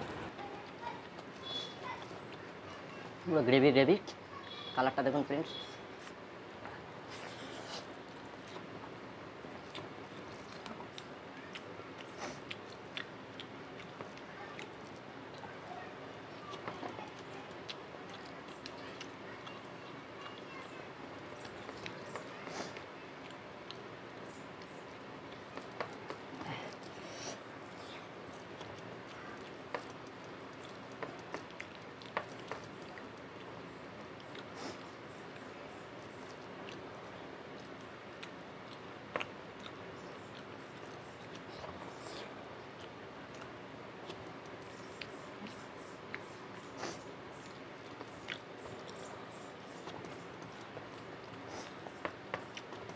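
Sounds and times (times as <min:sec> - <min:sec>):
man chewing and lip smacking: 0:09.4 - 0:15.8, 0:16.4 - 0:20.7, 0:21.3 - 0:52.9.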